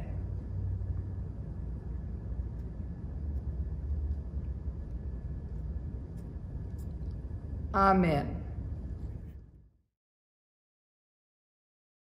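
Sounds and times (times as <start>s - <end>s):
low room rumble: 0.0s - 9.9s.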